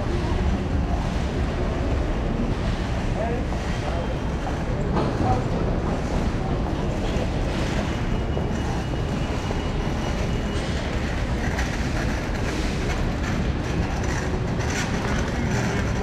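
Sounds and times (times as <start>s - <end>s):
tyre and traffic noise: 0.0s - 16.0s.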